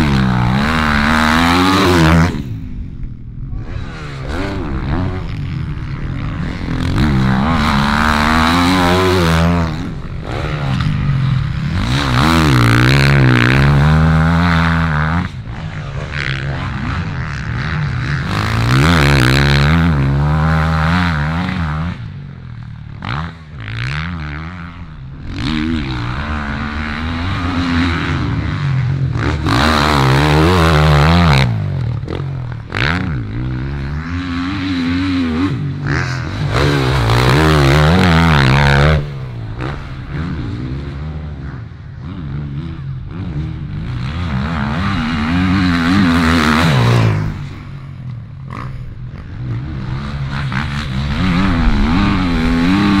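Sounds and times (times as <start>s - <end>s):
dirt bikes revving: 0.0s - 53.0s.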